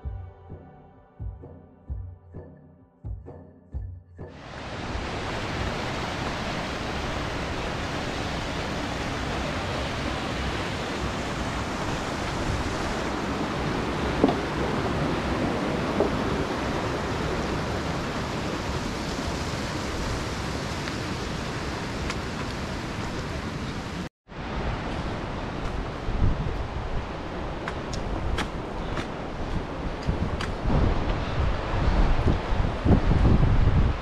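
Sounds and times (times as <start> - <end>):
fast river rushing: 4.3 - 34.0.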